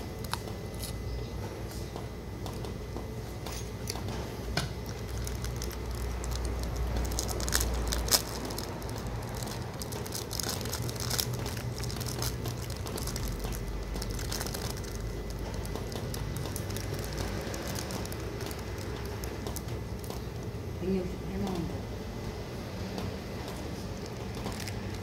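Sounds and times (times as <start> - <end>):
low steady rumble: 4.7 - 25.0.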